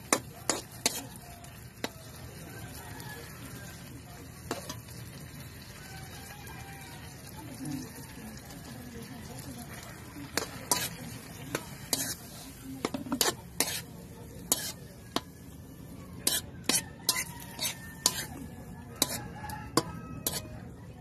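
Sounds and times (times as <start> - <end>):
metal spoon scraping a wok: 0.0 - 5.7, 8.4 - 20.8
food sizzling: 0.0 - 21.0.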